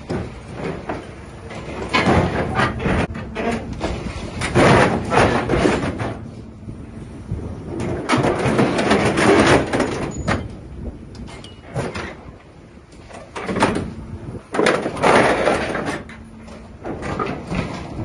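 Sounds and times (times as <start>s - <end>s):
metal grinding and clanking: 0.0s - 18.0s.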